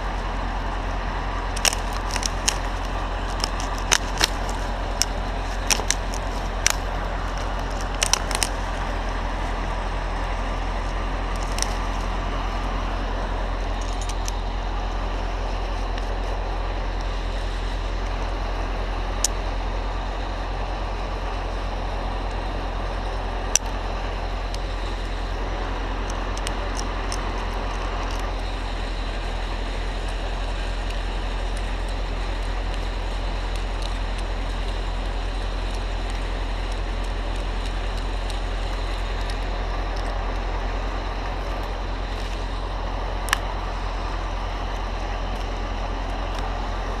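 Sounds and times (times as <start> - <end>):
crane engine running: 0.0 - 47.0.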